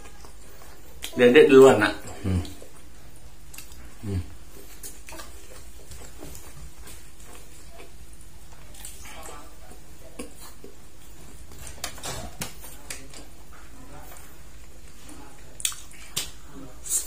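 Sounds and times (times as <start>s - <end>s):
soft eating sounds: 0.0s - 17.0s.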